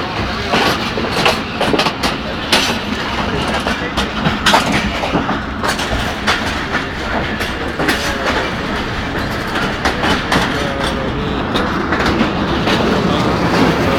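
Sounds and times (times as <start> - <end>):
train rumble: 0.0 - 13.9
wheels clacking over rail joints: 0.0 - 13.9.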